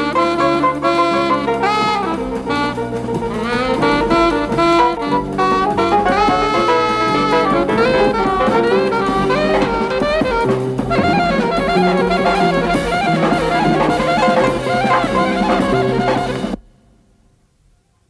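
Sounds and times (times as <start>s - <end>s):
jazz band music: 0.0s - 16.6s.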